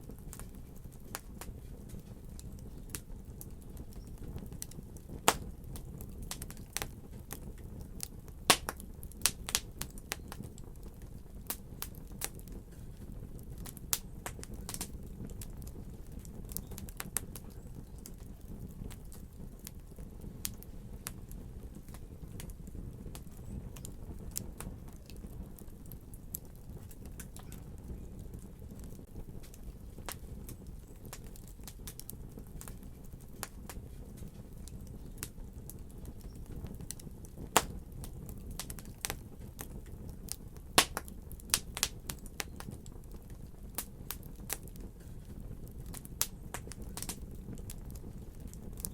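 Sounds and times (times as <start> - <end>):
sharp pops and snaps of fire: 0.0 - 48.9
wood fire crackling: 0.0 - 48.9.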